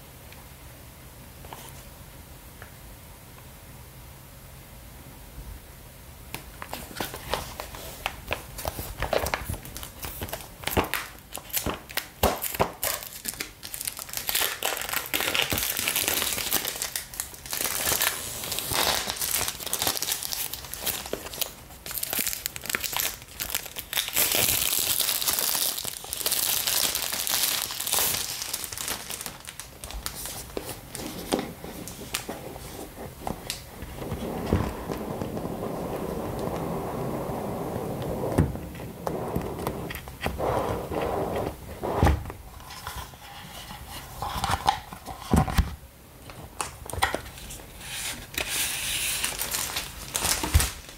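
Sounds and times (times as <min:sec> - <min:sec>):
plastic wrap crinkling and tearing: 0:06.6 - 0:45.6, 0:46.4 - 0:50.9.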